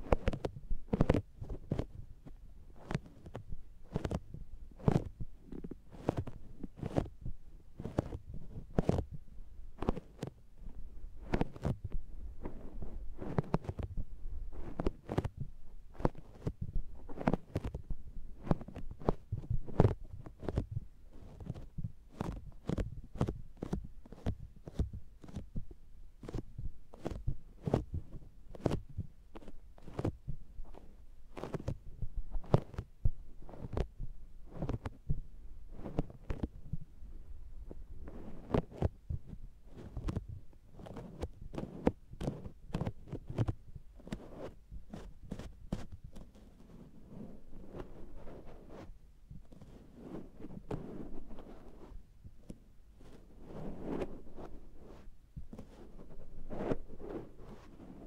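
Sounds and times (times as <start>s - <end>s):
makeup sponge patting microphone: 0.0s - 58.0s.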